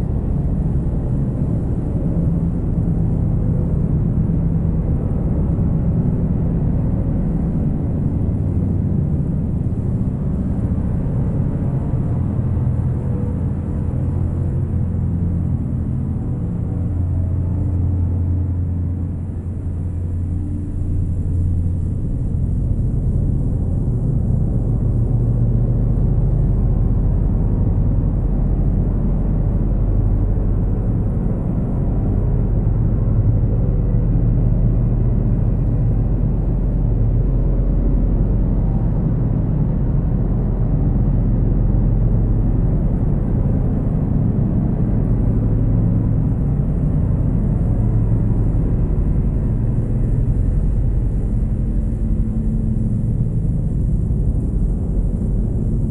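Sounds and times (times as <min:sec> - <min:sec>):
dark ambient drone music: 0:00.0 - 0:55.9.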